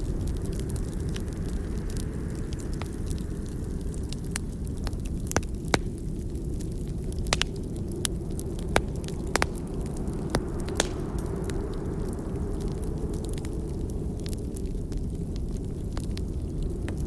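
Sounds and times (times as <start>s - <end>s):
burning log crackling and popping: 0.0s - 17.0s.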